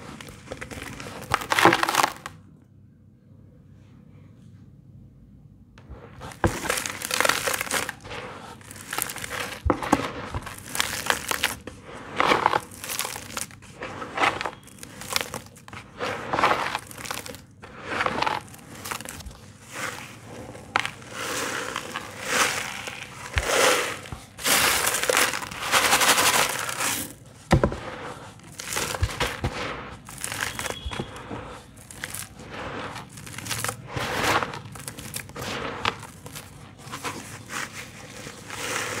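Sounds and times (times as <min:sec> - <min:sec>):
hands crushing dry cement clumps: 0:00.0 - 0:02.4, 0:05.8 - 0:39.0.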